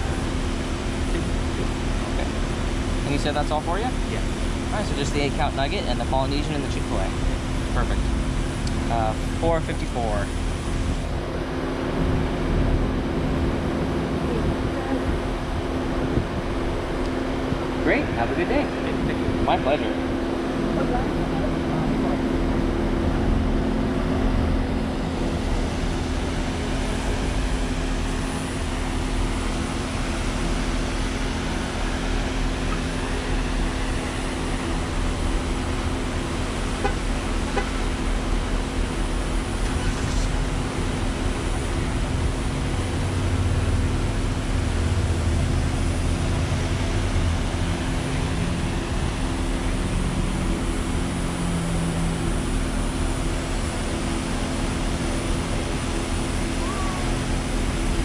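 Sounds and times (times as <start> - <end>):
car engine idling: 0.0 - 58.0
surrounding traffic noise: 0.0 - 58.0.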